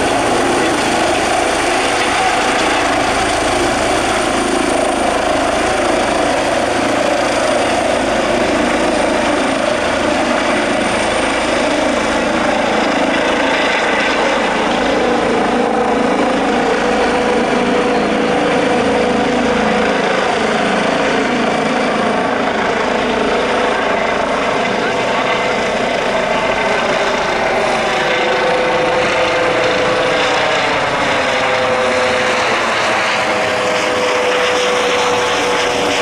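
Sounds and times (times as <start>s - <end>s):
helicopter rotor and turbine noise: 0.0s - 36.0s.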